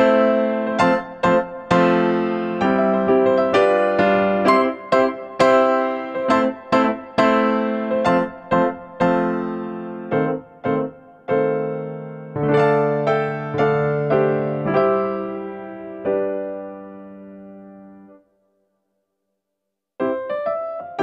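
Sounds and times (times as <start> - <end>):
piano music: 0.0 - 18.3, 20.0 - 21.0.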